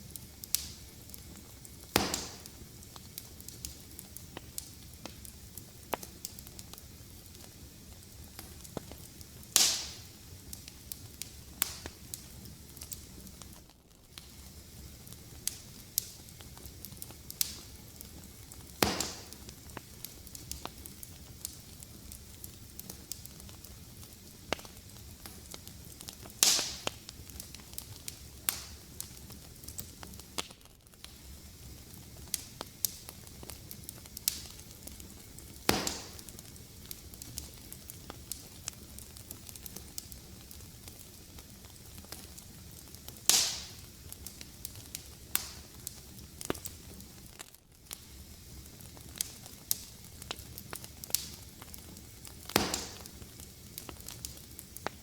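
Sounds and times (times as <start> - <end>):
fireplace fire crackling: 0.0 - 55.0
loud fire pops: 0.0 - 55.0.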